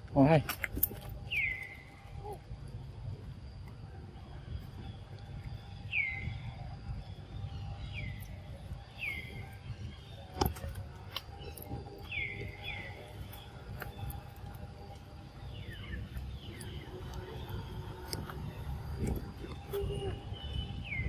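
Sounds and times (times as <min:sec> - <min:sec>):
low rumble: 0:00.9 - 0:21.0.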